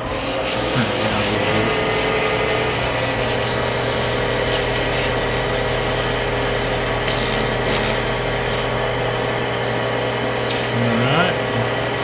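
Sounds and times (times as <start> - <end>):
wood lathe motor hum: 0.0 - 12.0
sandpaper rubbing on spinning wood: 0.1 - 10.6.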